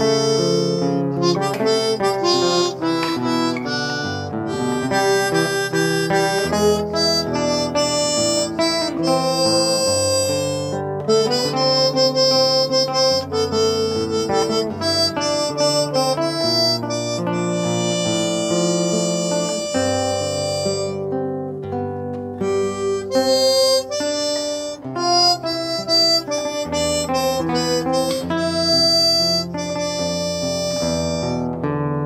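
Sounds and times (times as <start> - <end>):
backing accompaniment: 0.0 - 32.0
harmonica melody: 0.0 - 32.0.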